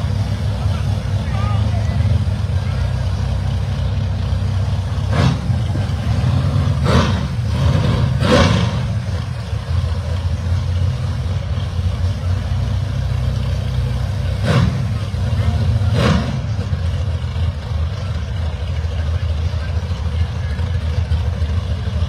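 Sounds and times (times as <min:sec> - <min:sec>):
race car engine idling: 0:00.0 - 0:22.0.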